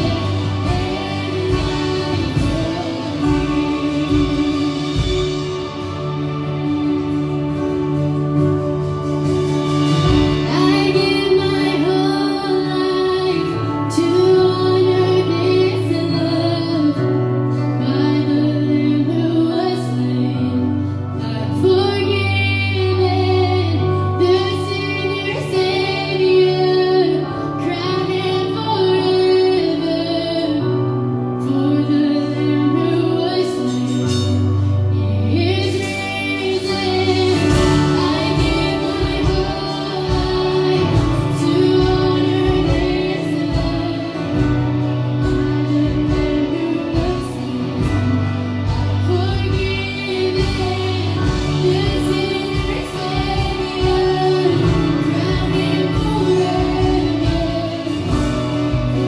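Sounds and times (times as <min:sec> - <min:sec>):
electric guitars: 0:00.0 - 0:59.0
sustained bass notes: 0:00.0 - 0:59.0
woman singing: 0:00.0 - 0:59.0.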